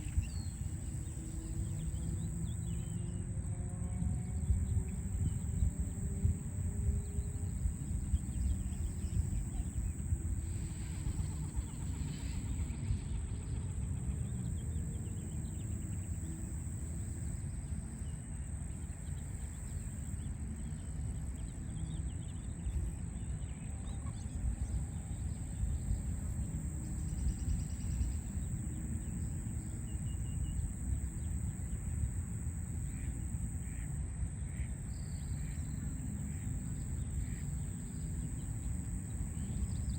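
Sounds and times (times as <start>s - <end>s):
low city rumble: 0.0s - 39.9s.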